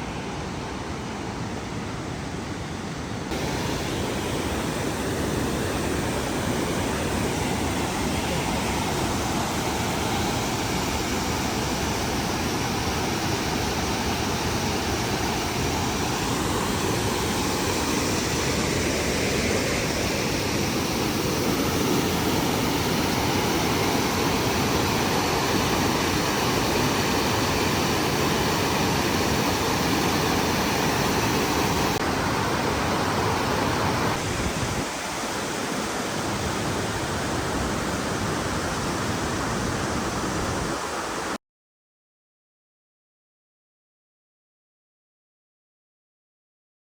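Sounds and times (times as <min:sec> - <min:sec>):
waterfall rushing: 0:03.3 - 0:41.4.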